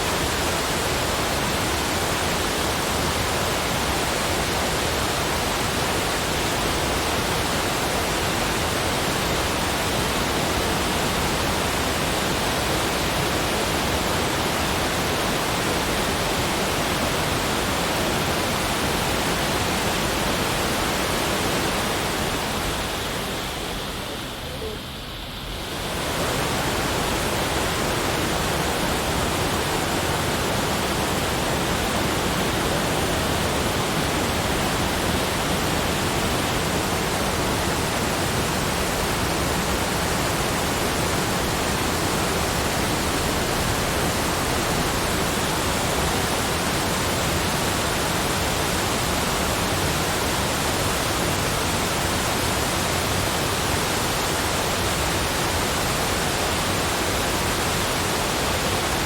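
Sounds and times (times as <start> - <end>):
steady rushing noise: 0.0 - 59.0.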